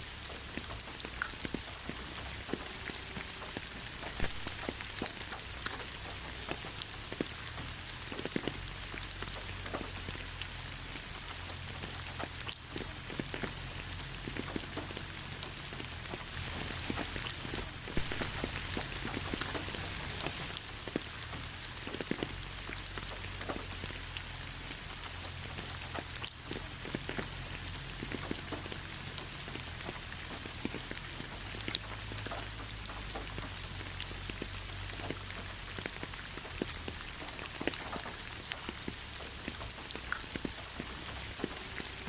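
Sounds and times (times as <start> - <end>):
raindrops tapping: 0.0 - 42.0
steady rain hiss: 0.0 - 42.0.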